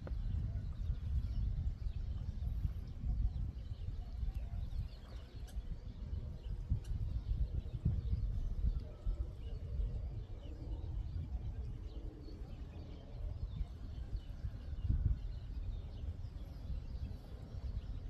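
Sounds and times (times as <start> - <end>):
faint bird chirps: 0.0 - 18.0
wind buffeting microphone: 0.0 - 18.0.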